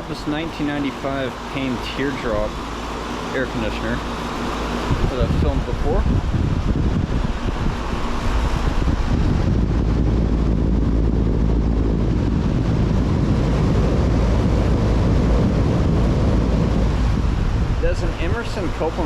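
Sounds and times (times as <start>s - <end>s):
low hum: 0.0s - 19.0s
rush of fan air: 0.0s - 19.0s.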